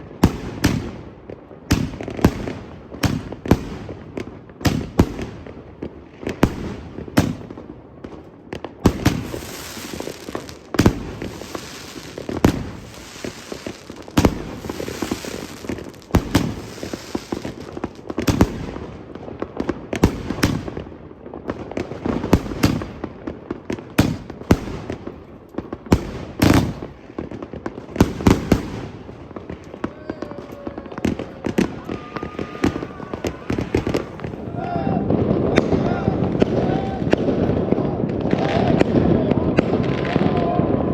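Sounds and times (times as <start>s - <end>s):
fireworks bangs: 0.0s - 40.9s
fireworks crackling: 0.0s - 40.9s.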